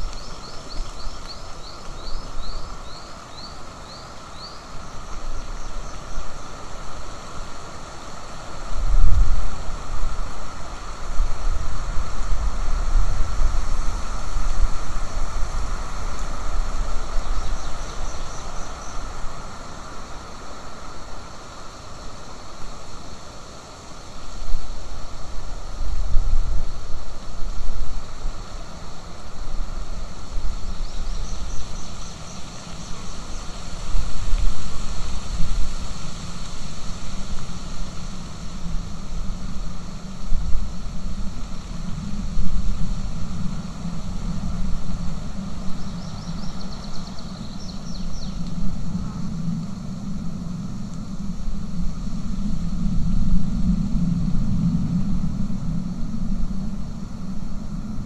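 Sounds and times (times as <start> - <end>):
gusty wind buffeting microphone: 0.0 - 58.0.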